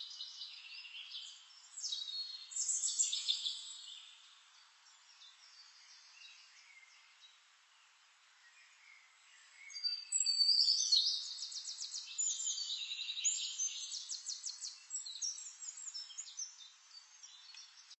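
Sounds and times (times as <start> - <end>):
songbirds singing with trills: 0.0 - 18.0.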